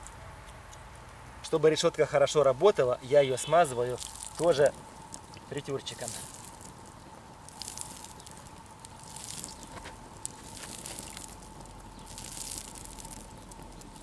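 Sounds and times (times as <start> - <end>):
wood fire crackling: 0.0 - 14.0
fat sizzling on hot grill: 0.8 - 14.0.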